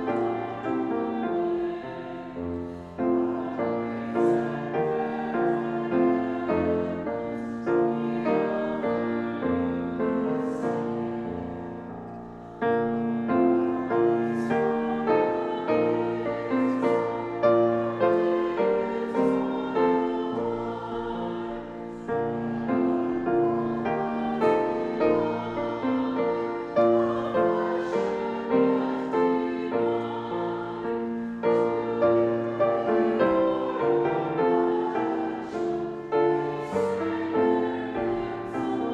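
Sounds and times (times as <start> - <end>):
choir singing: 0.0 - 38.9
piano accompaniment: 0.0 - 38.9.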